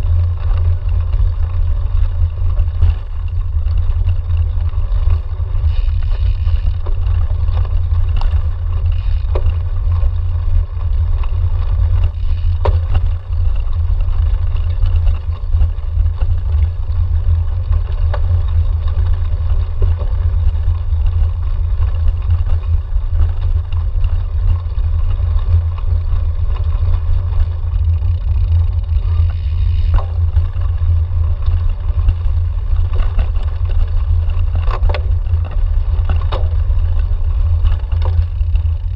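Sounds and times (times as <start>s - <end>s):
bike rolling over grass: 0.0s - 38.9s.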